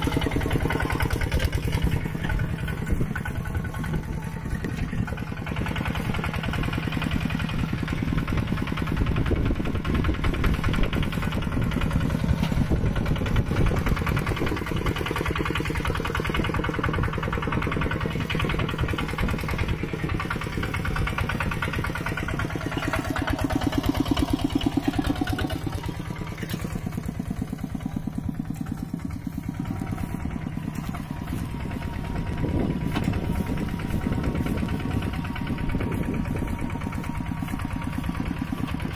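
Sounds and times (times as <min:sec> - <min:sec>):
mini tractor engines chugging: 0:00.0 - 0:38.9.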